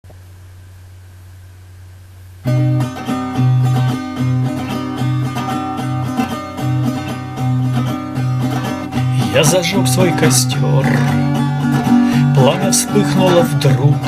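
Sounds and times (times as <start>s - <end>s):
low steady hum: 0.0s - 14.0s
acoustic guitar strumming: 2.4s - 14.0s.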